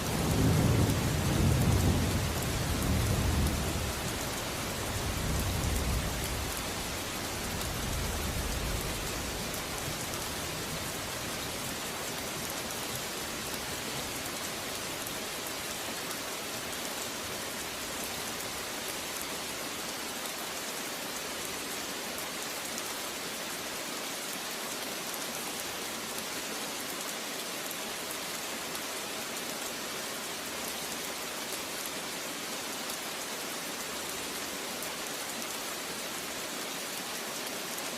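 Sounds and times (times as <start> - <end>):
heavy rain hissing: 0.0 - 37.9.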